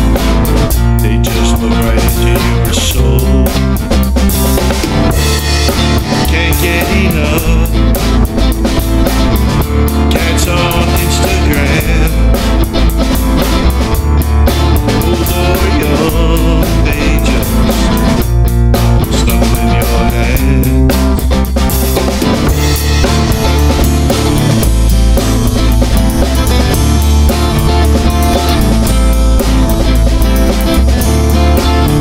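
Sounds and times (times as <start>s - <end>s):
drum kit beat: 0.0s - 32.0s
guitar: 0.0s - 32.0s.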